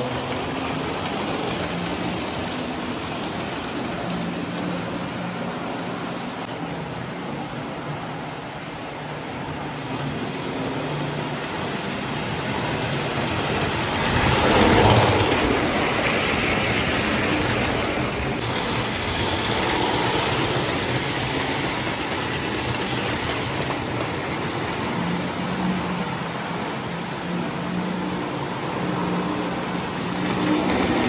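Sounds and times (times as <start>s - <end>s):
toy train rolling on track: 0.0s - 6.5s, 9.1s - 26.0s, 28.8s - 31.0s.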